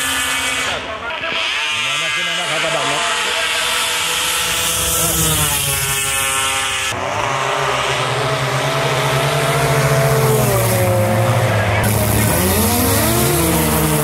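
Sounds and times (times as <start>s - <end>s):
high-revving engine drone: 0.0s - 14.0s
snowmobile engines at full throttle: 0.0s - 14.0s.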